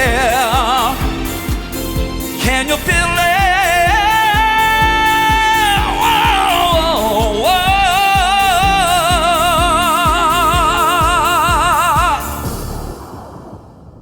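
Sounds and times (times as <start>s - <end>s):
man singing with vibrato: 0.0s - 12.6s
dance-pop beat: 0.0s - 12.9s.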